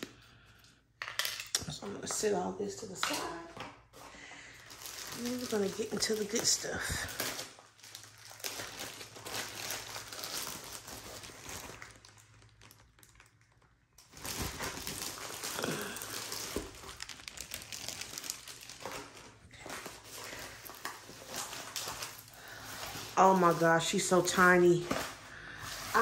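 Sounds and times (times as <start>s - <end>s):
plastic sleeve crinkling: 2.8s - 26.0s.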